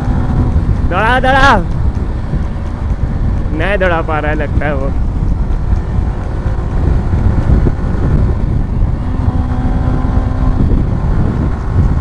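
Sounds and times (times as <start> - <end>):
motorcycle engine running: 0.0 - 12.0
wind rushing on microphone: 0.0 - 12.0.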